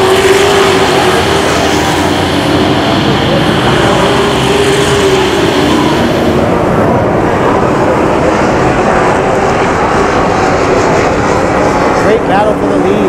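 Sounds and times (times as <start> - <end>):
race truck engines droning: 0.0 - 13.0.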